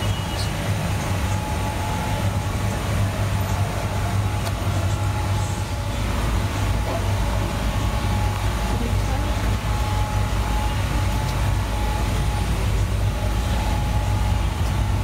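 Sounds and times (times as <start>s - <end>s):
low mechanical rumble with hum: 0.0s - 15.0s.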